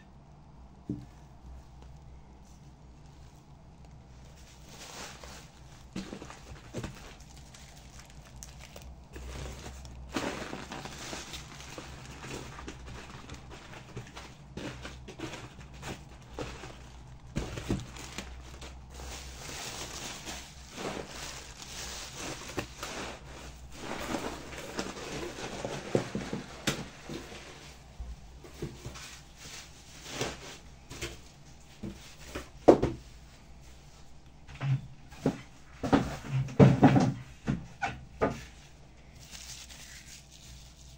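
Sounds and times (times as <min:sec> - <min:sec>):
objects rustling: 0:00.9 - 0:40.9.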